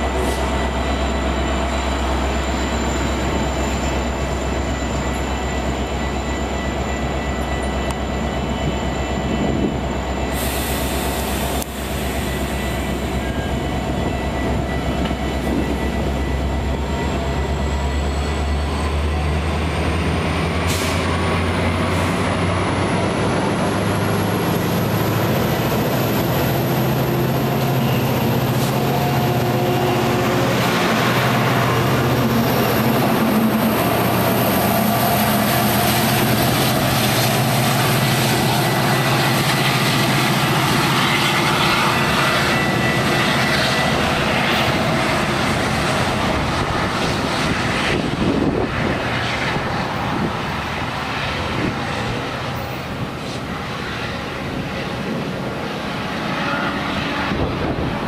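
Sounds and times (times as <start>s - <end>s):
locomotive engine drone: 0.0s - 58.0s
rumble of rolling train: 0.0s - 58.0s.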